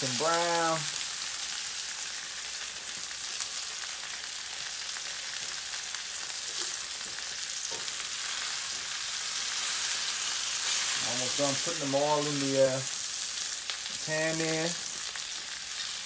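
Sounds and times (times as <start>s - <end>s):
chicken sizzling in frying pan: 0.0s - 16.0s.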